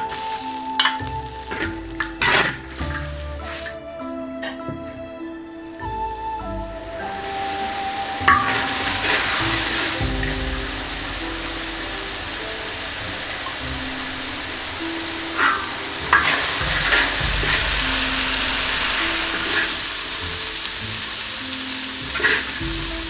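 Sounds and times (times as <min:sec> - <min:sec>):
food sizzling in a wok: 0:00.0 - 0:03.8, 0:07.0 - 0:23.0.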